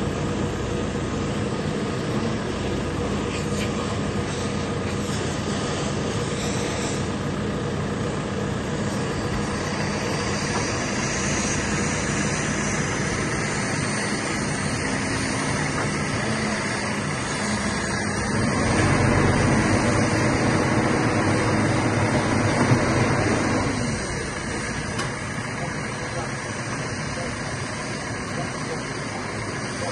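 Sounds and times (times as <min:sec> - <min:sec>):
diesel engine running: 0:00.0 - 0:29.9
hydraulics working: 0:00.0 - 0:29.9.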